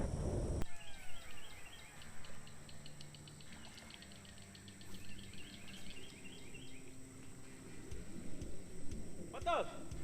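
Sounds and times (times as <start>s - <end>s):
birds chirping: 0.0s - 10.0s
steady high-pitched whine: 0.0s - 10.0s.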